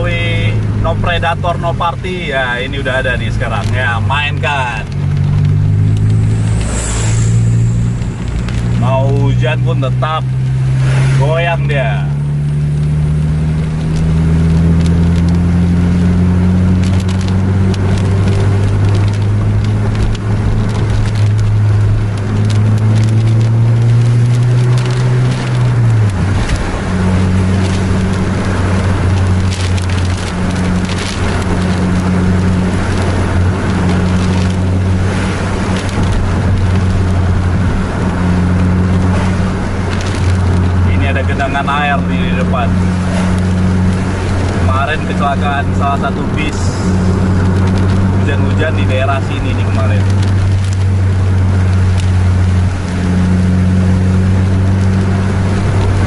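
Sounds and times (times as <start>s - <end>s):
road noise: 0.0s - 56.0s
vehicle engine accelerating: 0.0s - 56.0s
crackling clicks: 0.5s - 10.4s, 12.4s - 56.0s.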